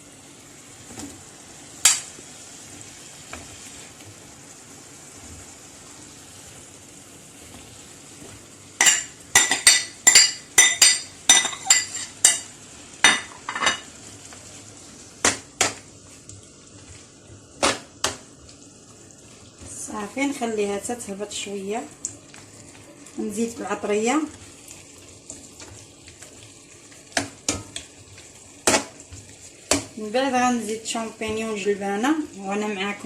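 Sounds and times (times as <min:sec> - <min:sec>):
vegetables sizzling in a pan: 0:00.0 - 0:33.0.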